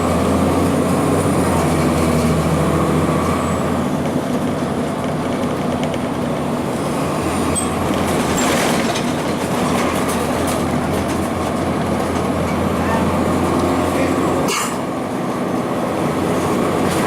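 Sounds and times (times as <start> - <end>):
bus body rattling: 0.0 - 17.0
bus diesel engine running: 0.0 - 17.0.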